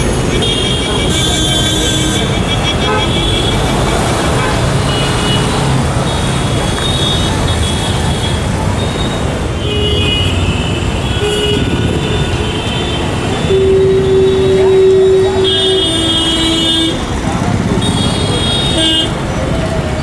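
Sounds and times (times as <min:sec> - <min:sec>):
vehicle horn toots: 0:00.0 - 0:17.2, 0:17.8 - 0:19.3
road traffic rumble: 0:00.0 - 0:20.0.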